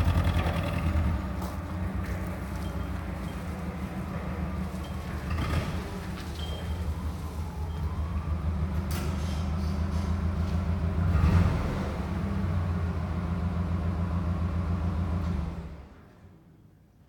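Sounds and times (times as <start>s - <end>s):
forklift engine humming: 0.0s - 16.2s.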